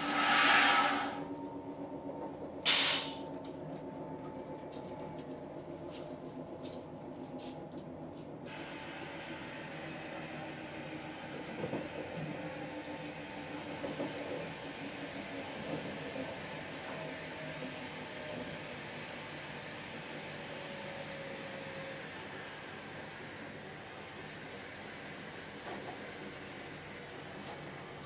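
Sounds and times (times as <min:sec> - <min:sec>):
train rumble inside carriage: 0:00.0 - 0:28.0.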